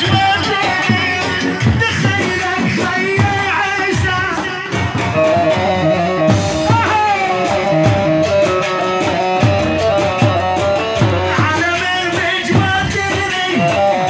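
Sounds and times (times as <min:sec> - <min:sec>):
backing music with drum beat: 0:00.0 - 0:14.0
man singing into a microphone: 0:00.0 - 0:14.0.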